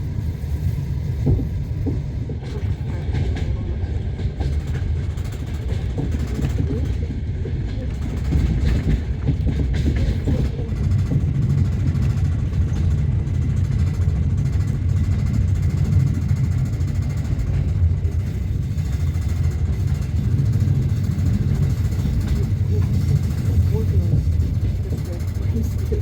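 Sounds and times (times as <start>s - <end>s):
train carriage rumbling on rails: 0.0s - 26.0s.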